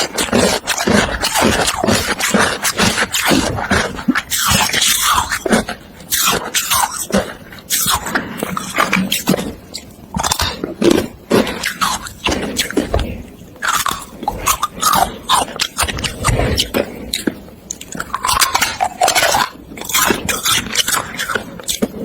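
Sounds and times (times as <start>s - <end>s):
chewing crunchy ice: 0.0s - 22.0s.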